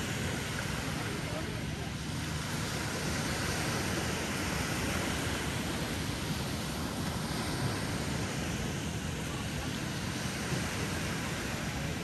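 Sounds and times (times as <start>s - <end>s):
ocean waves washing on beach: 0.0s - 12.0s.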